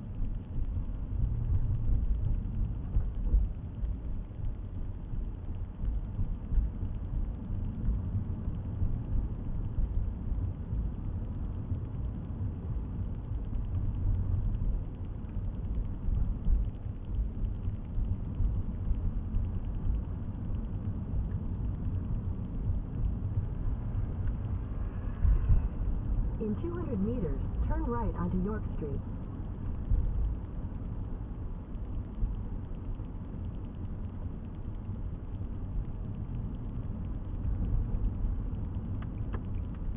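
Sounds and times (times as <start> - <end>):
car driving rumble inside cabin: 0.0 - 39.9.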